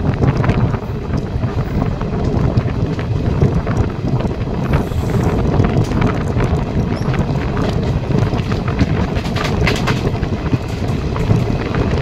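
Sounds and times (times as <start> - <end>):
train wheels rumbling on rails: 0.0 - 12.0
wind buffeting microphone: 0.0 - 12.0
sharp clicks of rails: 2.2 - 12.0.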